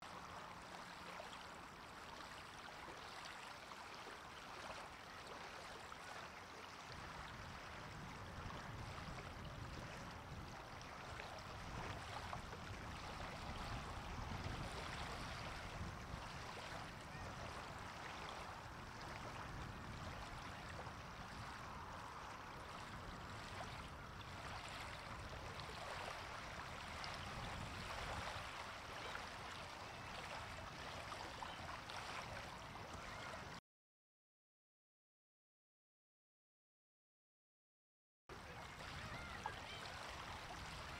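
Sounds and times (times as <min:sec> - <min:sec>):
running water: 0:00.0 - 0:33.6, 0:38.3 - 0:40.9.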